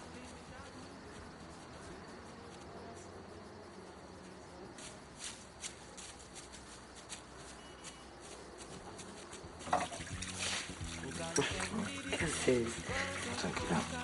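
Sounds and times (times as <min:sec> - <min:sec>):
footsteps on leaves: 0:00.0 - 0:14.0.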